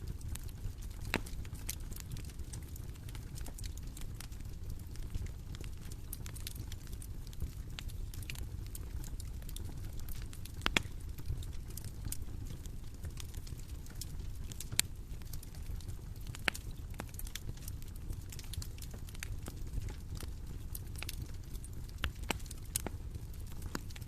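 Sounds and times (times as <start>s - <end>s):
bonfire crackling: 0.0s - 24.0s
fire popping and snapping: 0.0s - 24.0s.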